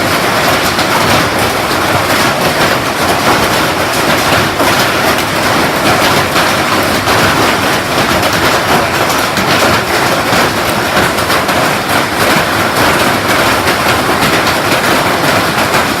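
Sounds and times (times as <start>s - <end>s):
hail clattering on hard surfaces: 0.0s - 16.0s.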